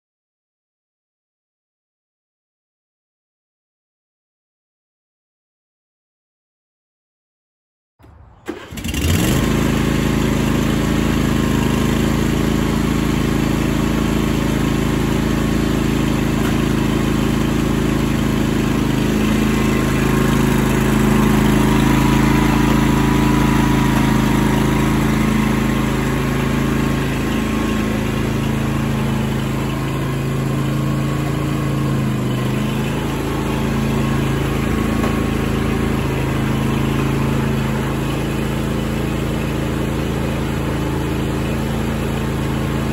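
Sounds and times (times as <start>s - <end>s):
lawn tractor engine running: 8.0s - 42.9s.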